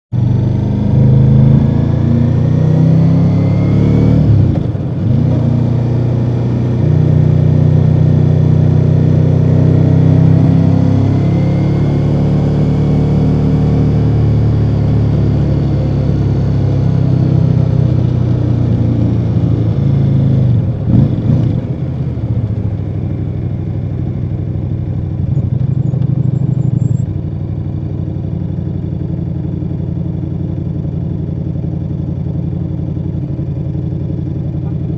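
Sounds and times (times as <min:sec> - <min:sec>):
motorcycle engine accelerating: 0:00.2 - 0:34.9.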